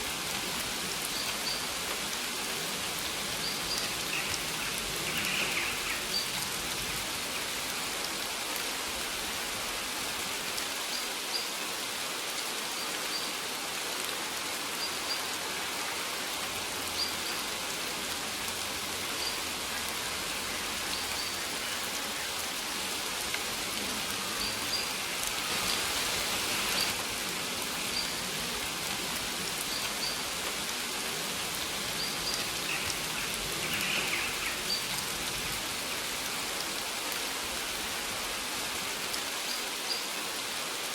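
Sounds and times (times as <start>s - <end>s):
rain hissing on a surface: 0.0s - 40.9s.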